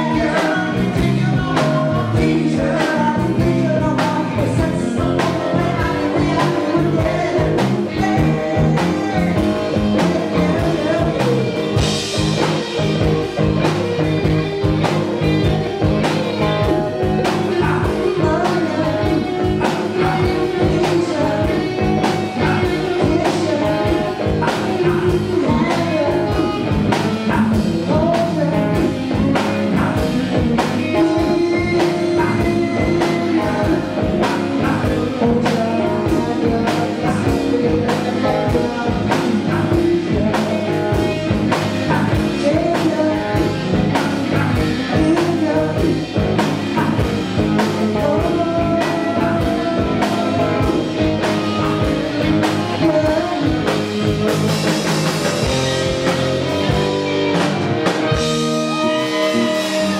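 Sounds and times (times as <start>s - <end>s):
bass guitar: 0.0s - 59.9s
drum kit beat: 0.0s - 59.9s
electric guitars: 0.0s - 59.9s.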